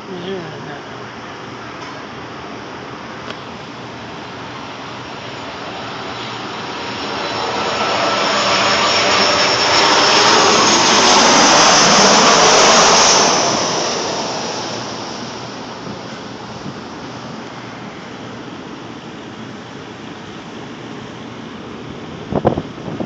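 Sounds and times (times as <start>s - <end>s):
jet airliner flying overhead: 0.0s - 23.0s.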